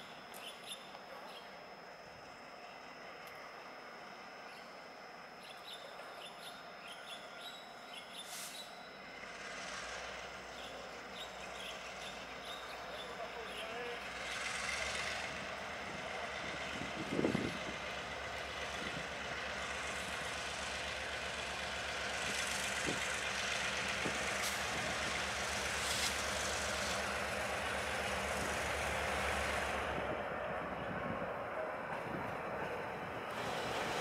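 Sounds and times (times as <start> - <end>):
train rumble and rail noise: 0.0 - 34.0.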